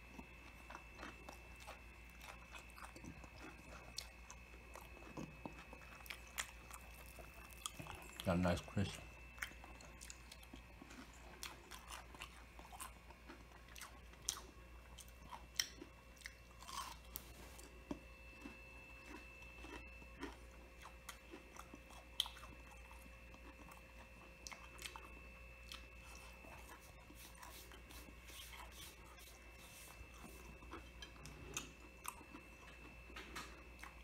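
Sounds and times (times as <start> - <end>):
chewing crunchy food: 0.0 - 34.0.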